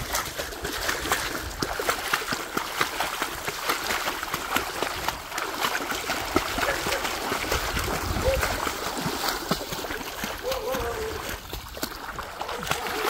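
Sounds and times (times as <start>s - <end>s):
dog splashing through water: 0.0s - 13.0s
footsteps splashing through water: 0.0s - 13.0s.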